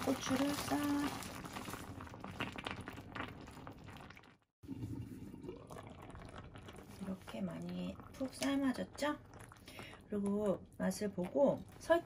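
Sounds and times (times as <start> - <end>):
stew simmering and bubbling in a pot: 0.0 - 12.0.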